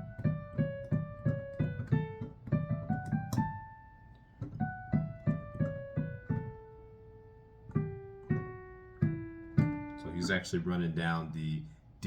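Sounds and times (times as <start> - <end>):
piano melody: 0.0 - 12.0.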